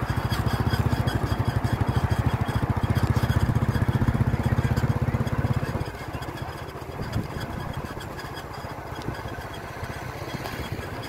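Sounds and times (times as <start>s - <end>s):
engine chugging: 0.0s - 11.0s.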